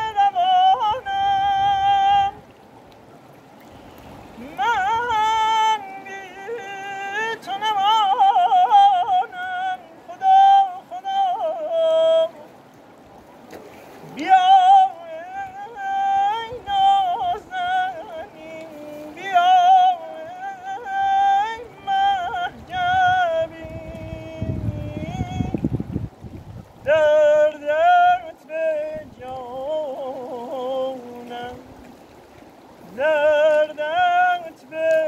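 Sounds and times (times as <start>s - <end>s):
man singing with rapid trills: 0.0s - 2.4s, 4.4s - 12.5s, 14.1s - 25.6s, 26.8s - 31.7s, 32.8s - 35.0s.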